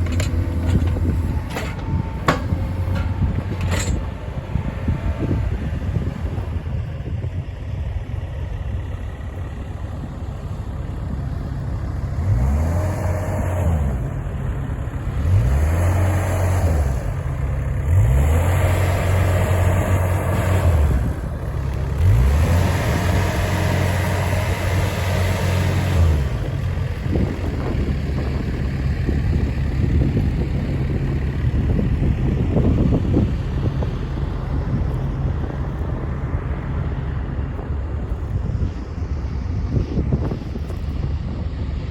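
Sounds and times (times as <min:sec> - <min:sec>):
excavator diesel engine revving: 0:00.0 - 0:38.4.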